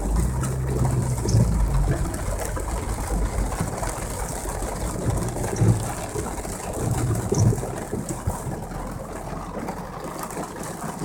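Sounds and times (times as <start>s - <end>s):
car engine running low: 0.0s - 11.0s.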